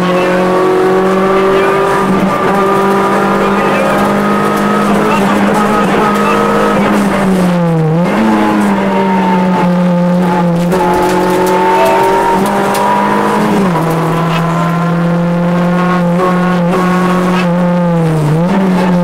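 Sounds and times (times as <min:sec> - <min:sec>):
rally car engine running hard: 0:00.0 - 0:19.0.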